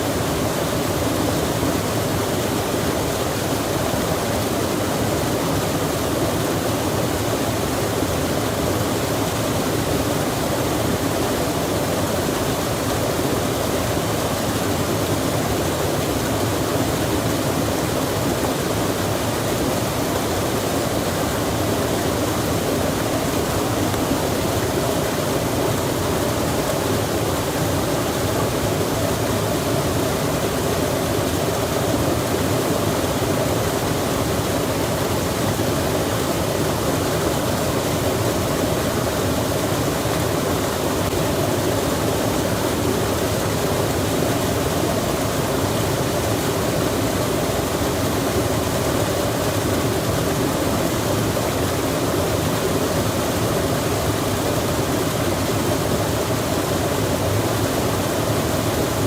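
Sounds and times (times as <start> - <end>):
rain and rushing stream: 0.0 - 59.0.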